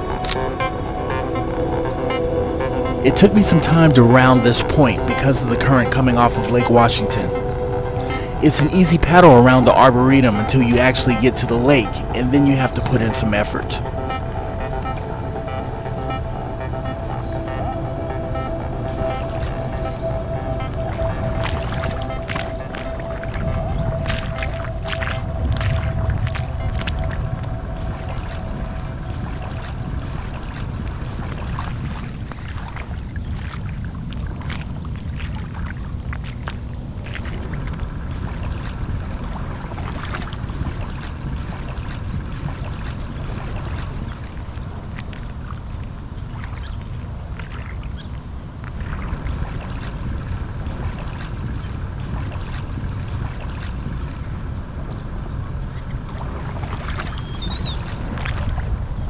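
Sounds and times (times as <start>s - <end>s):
water splashing from paddling: 0.0s - 45.2s, 48.6s - 54.4s, 56.1s - 58.7s
low wind rumble on microphone: 7.0s - 59.0s.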